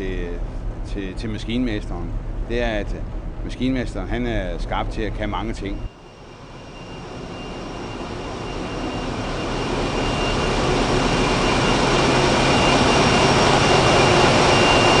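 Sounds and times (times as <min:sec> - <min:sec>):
engine room machinery running: 0:00.0 - 0:15.0.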